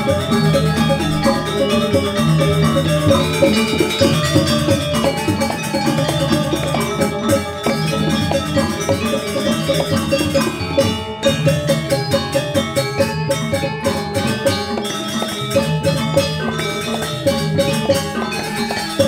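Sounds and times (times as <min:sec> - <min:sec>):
drums: 0:00.0 - 0:19.0
metal percussion ringing: 0:00.0 - 0:19.0.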